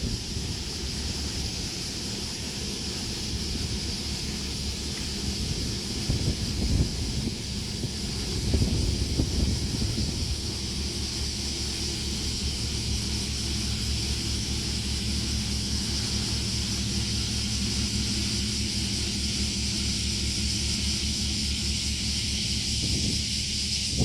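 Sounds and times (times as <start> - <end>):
ferry engine low throb: 0.0 - 24.0
high hiss: 0.0 - 24.0.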